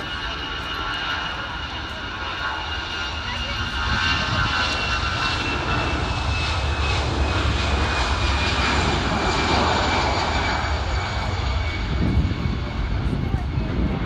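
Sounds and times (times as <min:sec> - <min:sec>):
jet engines roaring with whine: 0:00.0 - 0:14.0.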